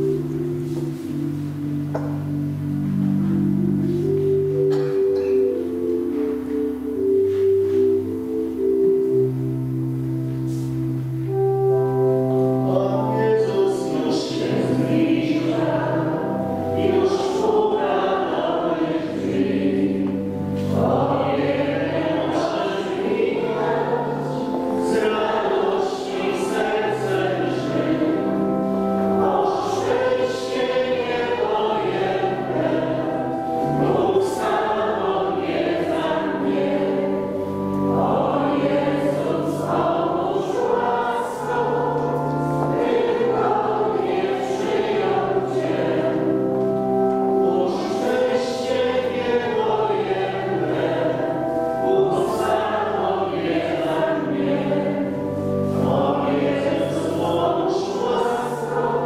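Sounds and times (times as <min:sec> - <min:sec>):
congregation singing a hymn: 0:00.0 - 0:59.0
pipe organ chords: 0:00.0 - 0:59.0.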